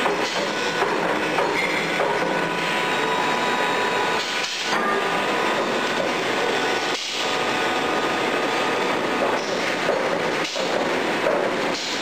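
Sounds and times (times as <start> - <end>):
noisy machinery din: 0.0 - 12.0.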